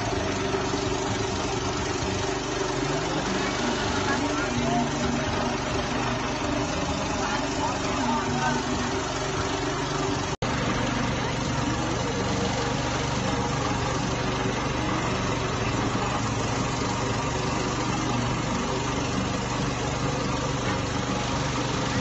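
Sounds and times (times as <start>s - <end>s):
engine running with low hum: 0.0s - 22.0s.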